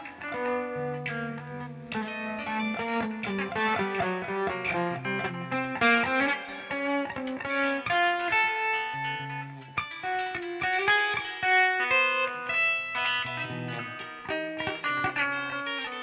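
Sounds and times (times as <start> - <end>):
held bass notes: 0.0 - 15.8
plucked guitar notes: 0.0 - 16.0.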